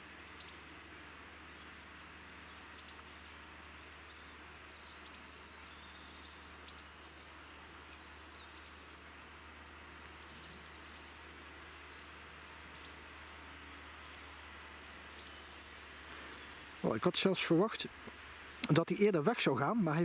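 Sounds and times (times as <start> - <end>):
bird chirping: 0.0 - 19.1
steady background hiss: 0.0 - 20.0.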